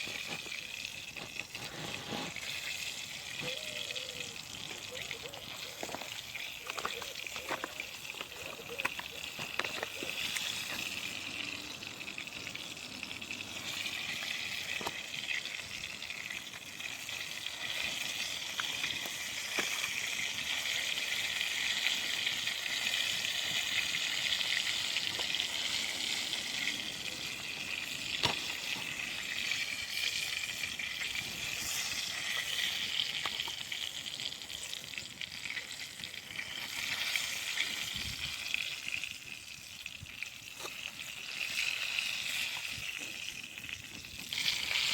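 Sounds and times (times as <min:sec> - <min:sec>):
food sizzling in hot oil: 0:00.0 - 0:44.9
oil popping: 0:00.0 - 0:44.9.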